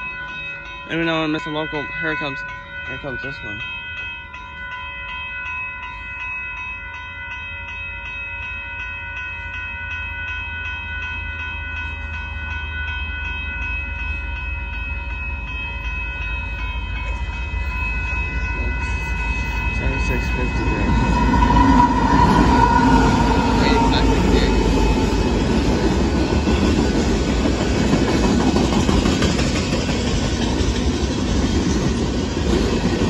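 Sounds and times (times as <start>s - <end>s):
crossing bell ringing: 0.0s - 33.0s
freight train rumble: 5.5s - 33.0s.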